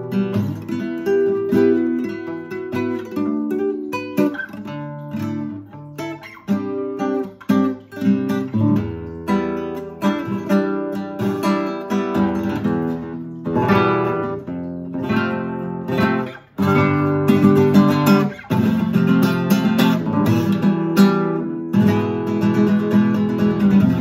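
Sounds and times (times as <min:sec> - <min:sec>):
classical guitar strummed chords: 0:00.0 - 0:24.0.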